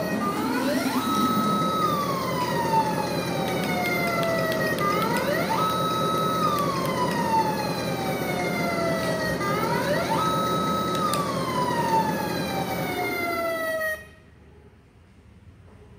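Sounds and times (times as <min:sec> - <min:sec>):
electronic siren wailing: 0:00.0 - 0:14.3.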